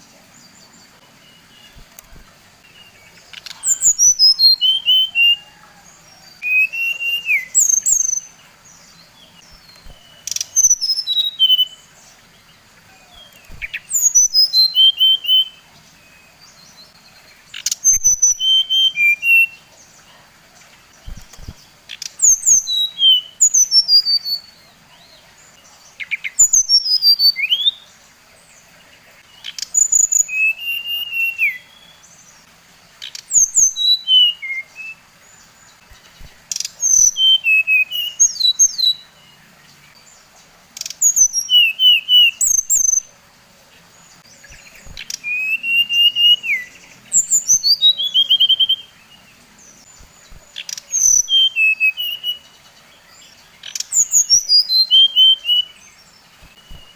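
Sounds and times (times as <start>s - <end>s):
bird singing whistled notes: 0.0s - 11.9s, 13.0s - 19.7s, 21.0s - 25.1s, 26.0s - 27.8s, 29.4s - 32.2s, 33.0s - 35.0s, 35.8s - 39.4s, 40.8s - 43.1s, 44.2s - 56.9s.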